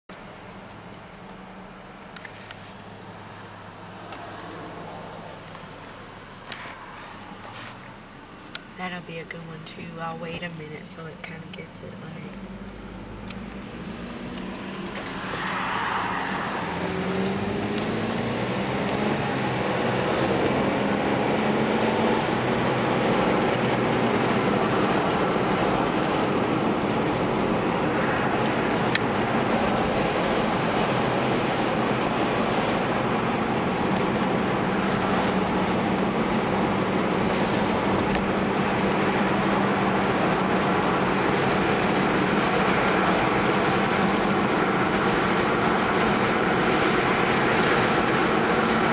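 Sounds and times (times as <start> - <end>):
tyre road noise: 0.1 - 48.9
car engine accelerating: 0.4 - 48.9.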